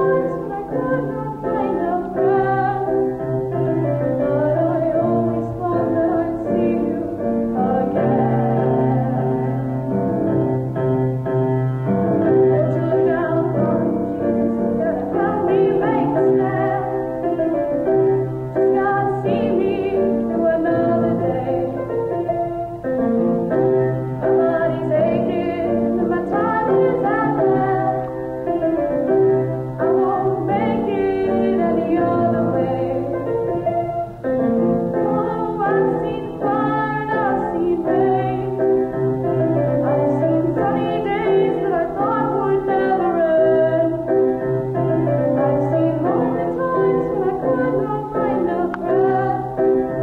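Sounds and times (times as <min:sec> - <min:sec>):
person singing: 0:00.0 - 0:10.8, 0:11.8 - 0:17.9, 0:18.6 - 0:22.5, 0:24.2 - 0:50.0
piano accompaniment: 0:00.0 - 0:50.0.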